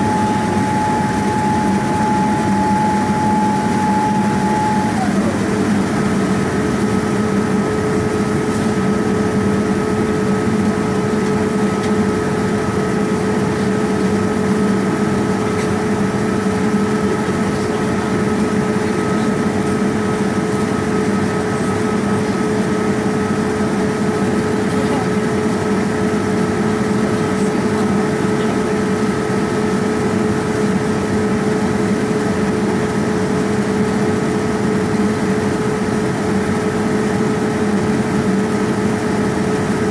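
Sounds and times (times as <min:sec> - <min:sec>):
airflow rushing in aircraft cabin: 0:00.0 - 0:39.9
jet engine hum with tones: 0:00.0 - 0:39.9.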